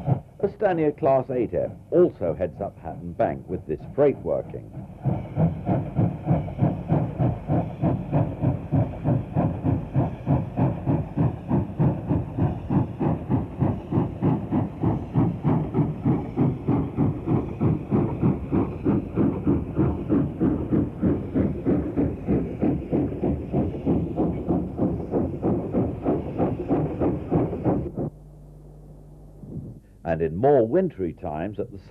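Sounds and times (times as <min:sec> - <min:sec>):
steam locomotive exhaust beats: 0:00.0 - 0:31.9.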